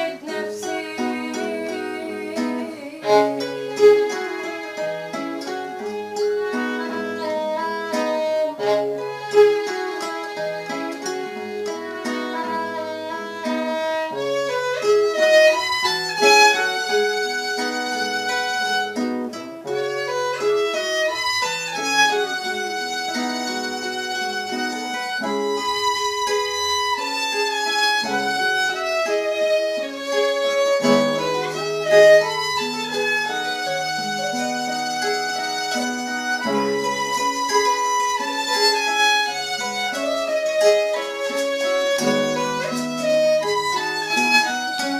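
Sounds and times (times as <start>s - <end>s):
plucked string accompaniment: 0.0s - 44.9s
violin melody: 0.0s - 44.9s.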